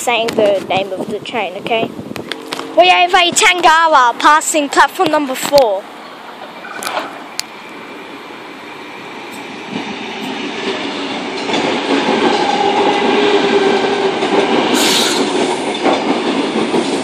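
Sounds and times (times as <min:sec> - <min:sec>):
train wheels rumbling: 0:00.0 - 0:17.0
electric train passing: 0:01.4 - 0:05.0, 0:05.7 - 0:17.0.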